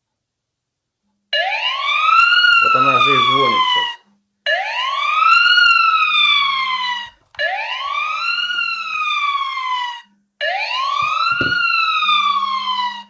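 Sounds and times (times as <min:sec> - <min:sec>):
electronic alarm siren wailing: 0:01.3 - 0:13.0.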